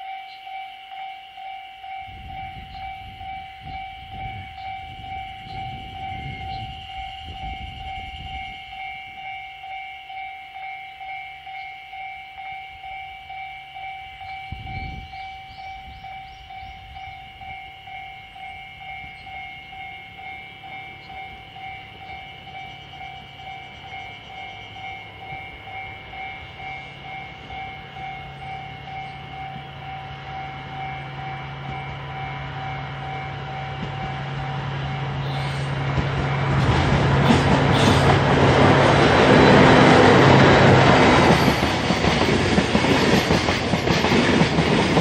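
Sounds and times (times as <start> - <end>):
pulsing electronic ringing tone: 0.0 - 38.2, 38.8 - 45.0
locomotive engine drone: 0.8 - 45.0.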